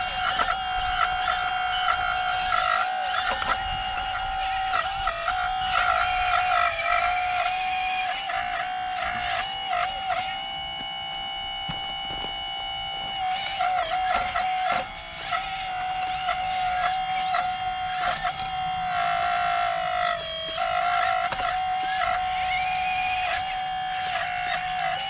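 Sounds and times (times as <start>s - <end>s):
hydraulic pump whining: 0.0s - 25.0s.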